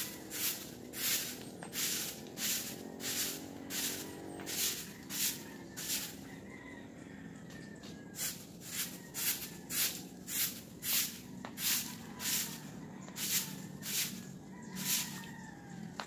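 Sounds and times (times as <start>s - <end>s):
broom sweeping wet concrete: 0.0s - 6.3s, 8.2s - 15.3s.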